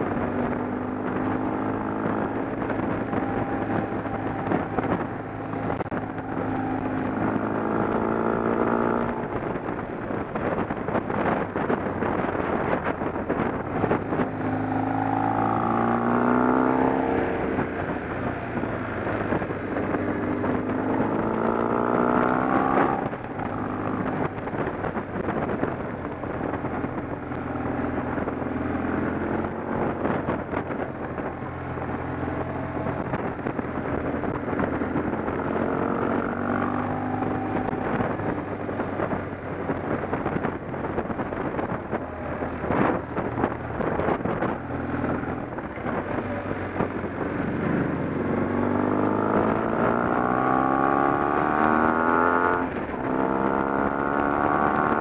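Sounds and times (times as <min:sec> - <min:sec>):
vehicle engine revving: 0:00.0 - 0:55.0.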